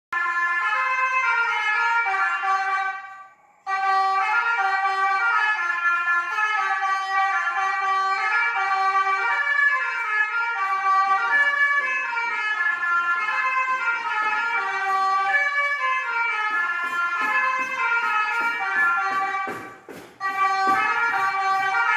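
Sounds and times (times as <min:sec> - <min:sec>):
multi-tone bus horn melody: 0:00.1 - 0:21.9.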